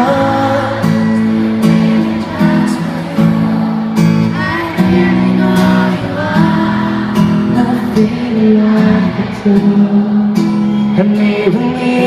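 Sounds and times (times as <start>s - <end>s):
person singing: 0.0s - 10.4s
live band playing a ballad: 0.0s - 12.0s
strummed guitar: 0.0s - 12.0s.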